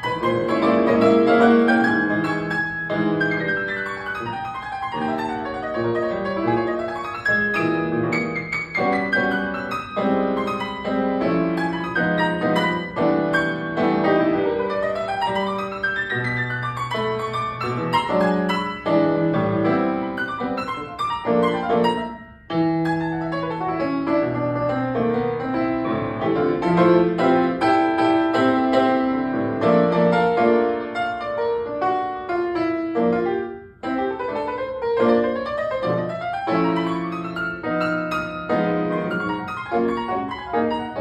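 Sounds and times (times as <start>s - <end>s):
solo piano: 0.0s - 41.0s.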